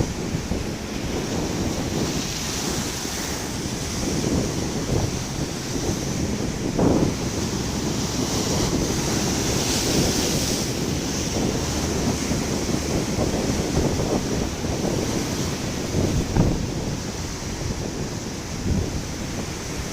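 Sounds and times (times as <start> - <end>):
sea surf washing on shore: 0.0 - 19.9
wind buffeting microphone: 0.0 - 19.9.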